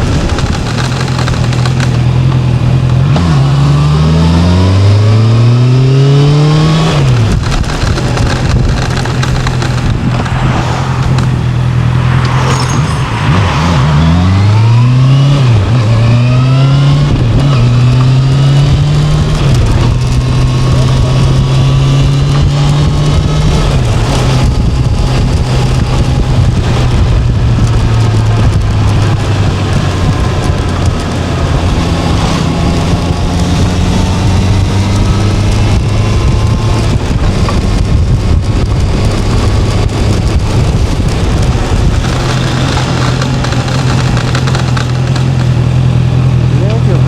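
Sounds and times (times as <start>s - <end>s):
vehicle engine accelerating: 0.0s - 47.0s
wind and road noise: 0.0s - 47.0s.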